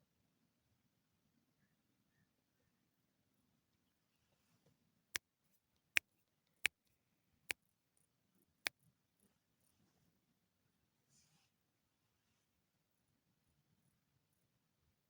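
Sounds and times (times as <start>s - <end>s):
faint low background noise: 0.0s - 15.0s.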